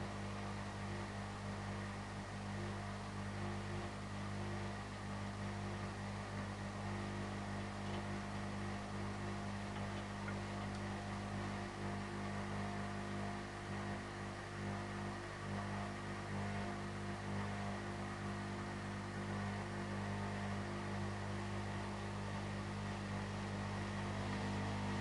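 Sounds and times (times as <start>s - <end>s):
washing machine humming: 0.0s - 25.0s.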